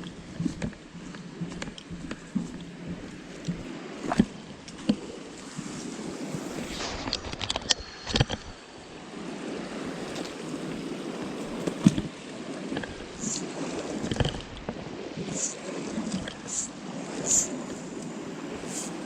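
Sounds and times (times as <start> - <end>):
stream water rushing: 0.8 - 19.0.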